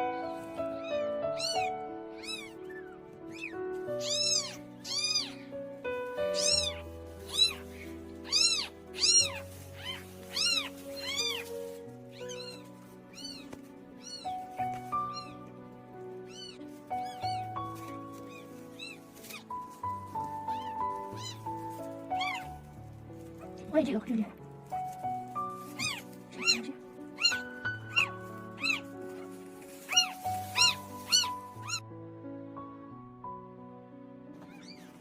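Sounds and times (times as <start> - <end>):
slow piano music: 0.0 - 35.0
kittens mewing: 0.2 - 15.5, 16.2 - 22.6, 25.3 - 31.8, 34.4 - 35.0.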